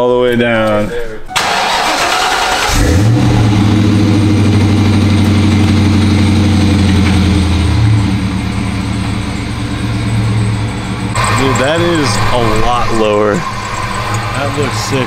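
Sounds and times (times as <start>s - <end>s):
car engine idling: 1.4s - 15.0s.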